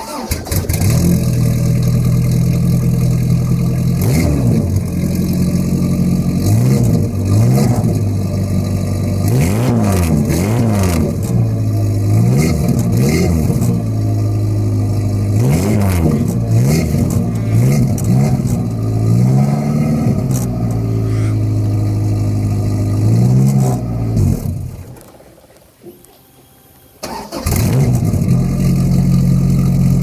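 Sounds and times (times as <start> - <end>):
engine idling and revving: 0.0 - 25.0, 27.1 - 30.0.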